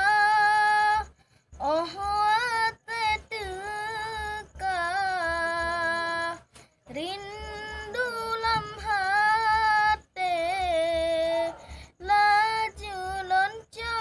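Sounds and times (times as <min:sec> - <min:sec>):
boy chanting: 0:00.0 - 0:14.0.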